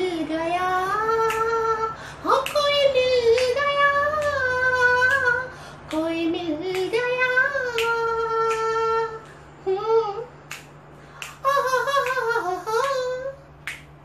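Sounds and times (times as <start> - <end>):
person singing unaccompanied: 0.0 - 10.6, 11.2 - 13.5.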